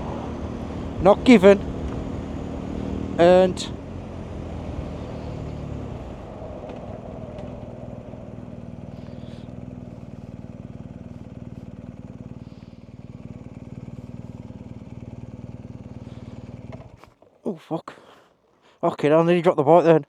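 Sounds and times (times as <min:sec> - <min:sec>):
motorcycle engine running at low revs: 0:00.0 - 0:17.2.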